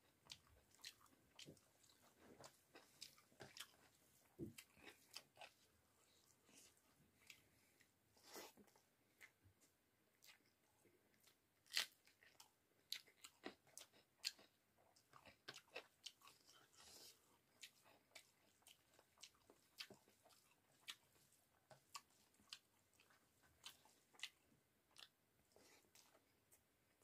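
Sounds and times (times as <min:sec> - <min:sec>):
chewing with mouth clicks: 0:00.0 - 0:27.0.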